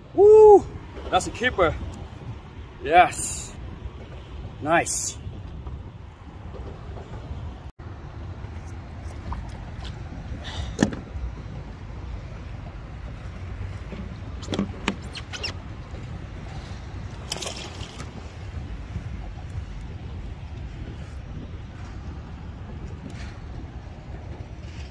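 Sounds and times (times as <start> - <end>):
wind rumble on microphone: 0.0 - 24.9.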